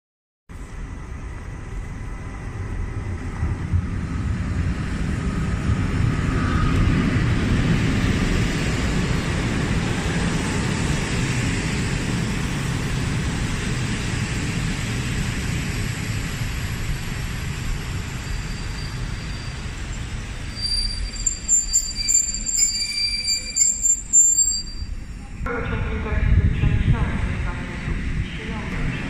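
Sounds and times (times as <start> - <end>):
passing train rumble: 0.5 - 29.0.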